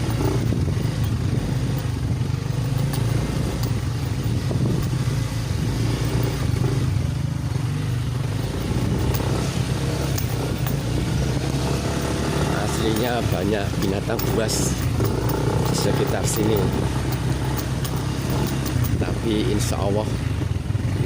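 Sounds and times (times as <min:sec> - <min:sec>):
light clicks and rattles: 0:00.0 - 0:05.3, 0:08.3 - 0:20.1
motorcycle engine running: 0:00.0 - 0:21.0.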